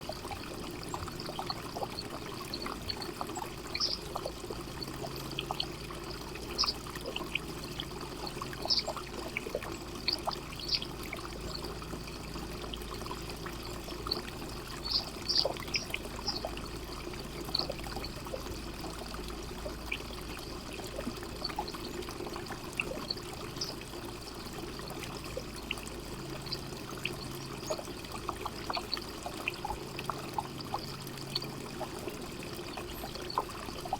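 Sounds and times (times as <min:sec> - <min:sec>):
sharp ticks and splashes: 0:00.0 - 0:33.9
water fountain trickling: 0:00.0 - 0:33.9.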